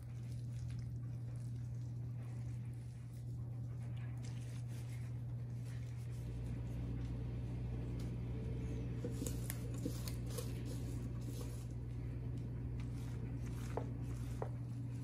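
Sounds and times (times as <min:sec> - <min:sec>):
steady low hum: 0:00.0 - 0:15.0
wet squishing crackles: 0:00.0 - 0:15.0.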